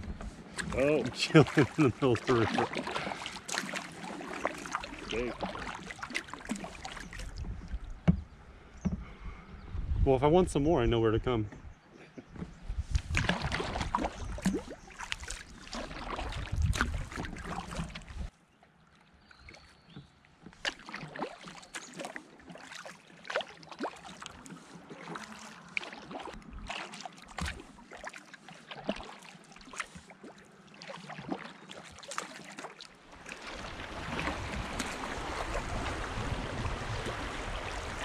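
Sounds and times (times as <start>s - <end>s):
paddle splashing water: 0.0s - 9.4s, 12.0s - 38.0s.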